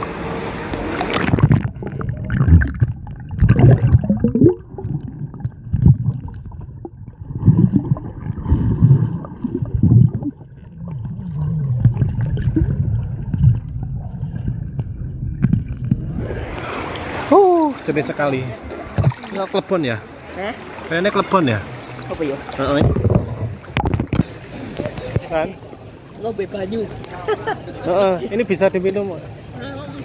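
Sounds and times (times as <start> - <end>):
underwater gurgling water: 0.0 - 26.1
water splash: 0.5 - 19.8, 20.6 - 25.4.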